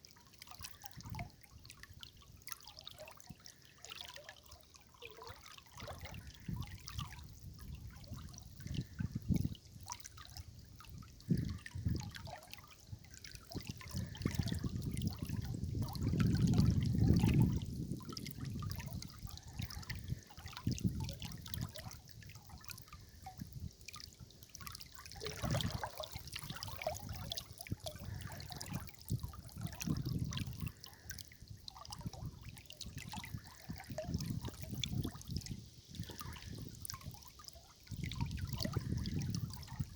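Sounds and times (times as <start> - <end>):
river water trickling and gurgling: 0.0 - 39.9.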